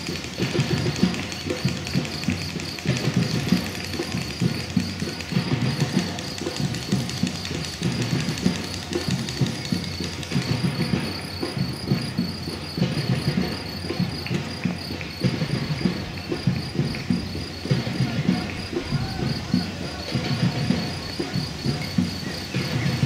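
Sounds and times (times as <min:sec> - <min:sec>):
high pulsing chirr: 0:00.0 - 0:23.0
runners' footsteps on pavement: 0:00.0 - 0:23.0.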